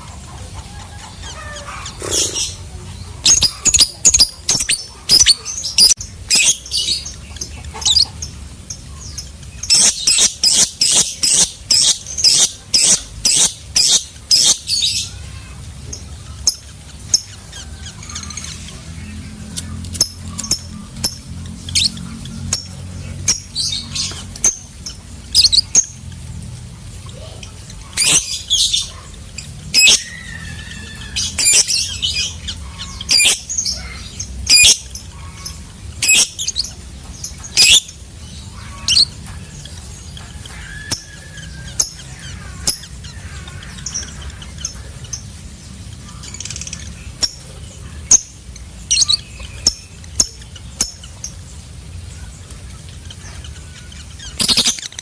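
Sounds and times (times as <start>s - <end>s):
lovebird squawking and chirping: 0.0s - 55.0s.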